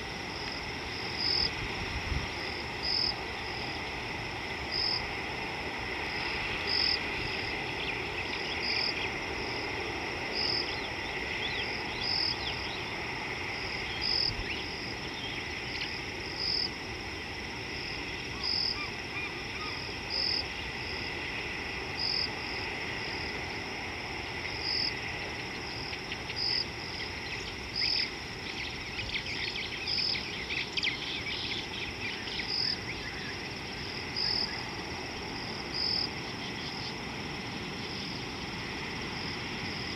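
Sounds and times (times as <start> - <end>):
high insect chirp: 0.0 - 39.9
steady background hiss: 0.0 - 39.9.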